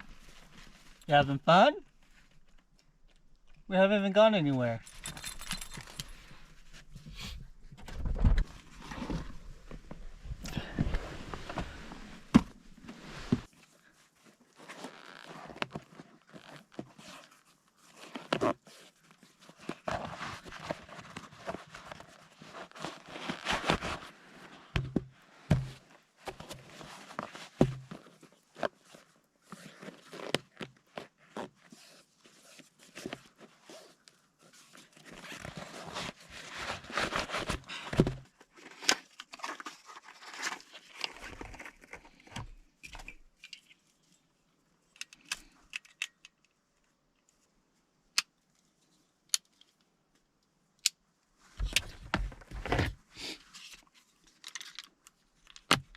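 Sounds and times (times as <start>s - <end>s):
gear rustling and crinkling: 0.0s - 3.7s, 4.4s - 45.6s.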